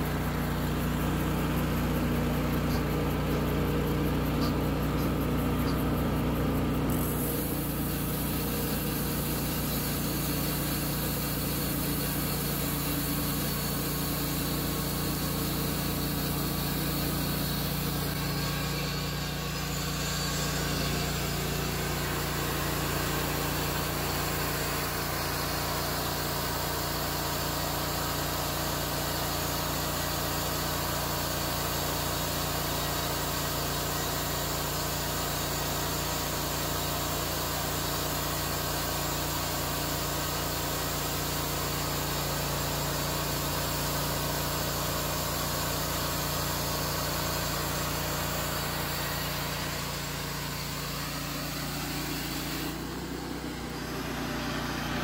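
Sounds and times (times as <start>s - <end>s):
band blade sawing log: 0.0s - 55.0s
sawmill engine droning: 0.0s - 55.0s.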